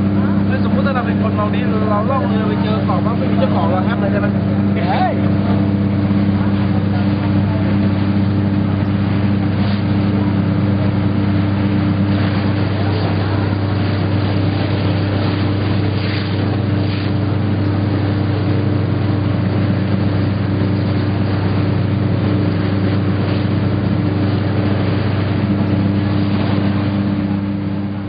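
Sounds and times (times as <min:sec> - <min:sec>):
motorboat engine humming: 0:00.0 - 0:28.0
water rushing along hull: 0:00.0 - 0:28.0.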